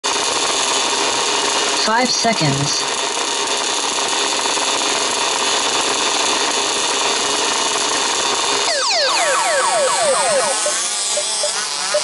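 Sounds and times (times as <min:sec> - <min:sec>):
model buggy engines buzzing: 0:00.1 - 0:01.9, 0:02.5 - 0:12.0.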